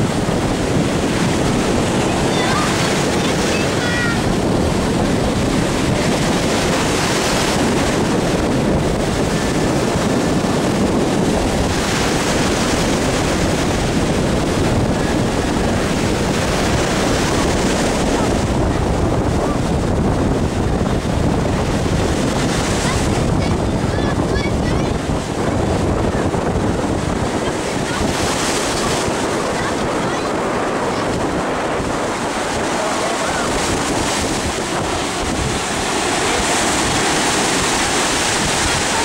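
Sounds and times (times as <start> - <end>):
heavy low rumble: 0.0 - 39.0
surf rushing: 0.0 - 39.0
wind buffeting microphone: 0.0 - 39.0.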